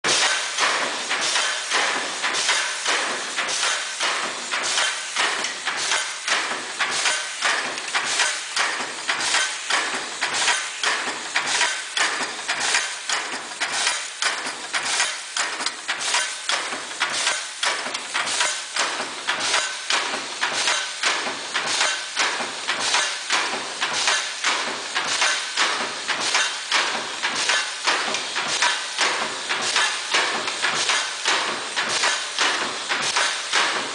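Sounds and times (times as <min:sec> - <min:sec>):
stamping machine clattering: 0:00.0 - 0:33.9.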